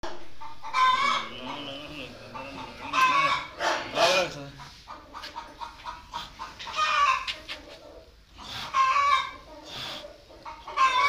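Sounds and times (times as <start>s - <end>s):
chickens clucking: 0.0s - 11.0s
chickens squawking: 0.0s - 11.0s.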